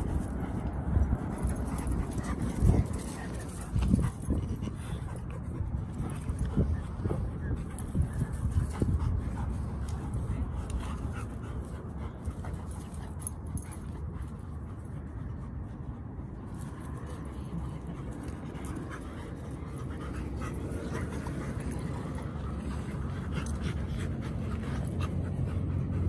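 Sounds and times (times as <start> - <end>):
dogs play-wrestling: 0.0 - 26.0
steady low rumble: 0.0 - 26.0.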